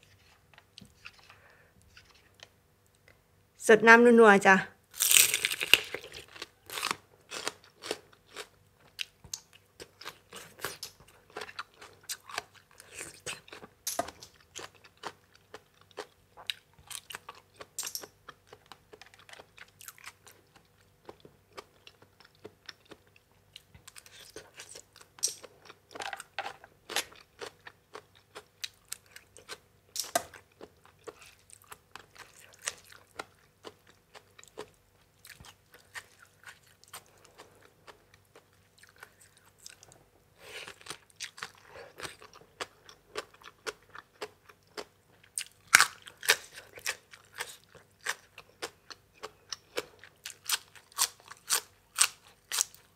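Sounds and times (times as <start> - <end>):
person chewing crunchy food: 5.0 - 52.9.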